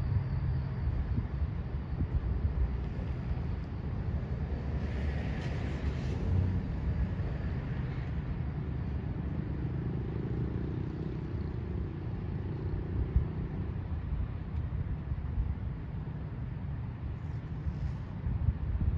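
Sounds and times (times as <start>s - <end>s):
vehicles rumbling: 0.0s - 18.9s.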